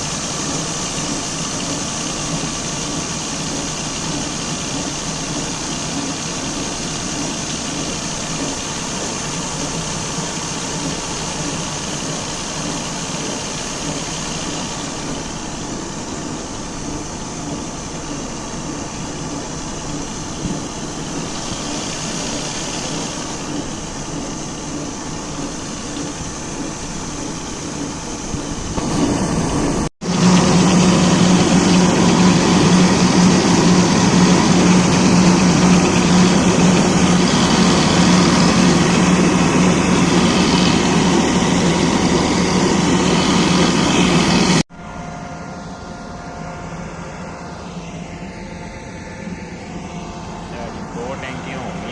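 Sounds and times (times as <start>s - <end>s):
combine harvester diesel engine: 0.0s - 51.9s.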